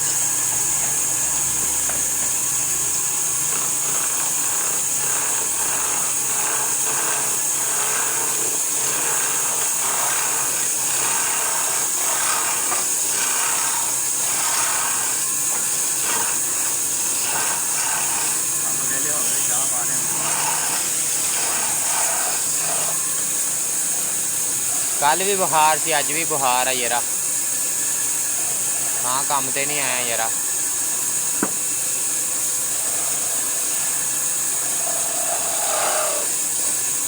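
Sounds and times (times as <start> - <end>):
woodworking power tool running: 0.0 - 37.0.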